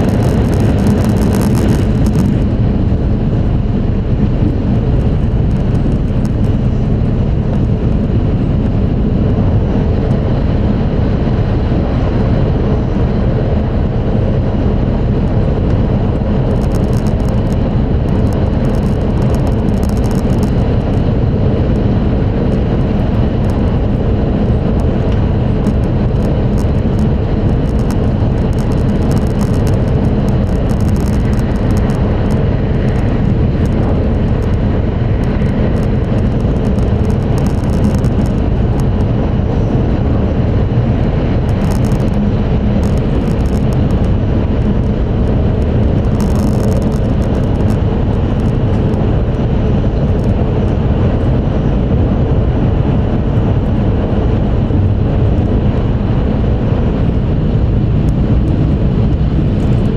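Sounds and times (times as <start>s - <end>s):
train running noise inside car: 0.0s - 59.9s.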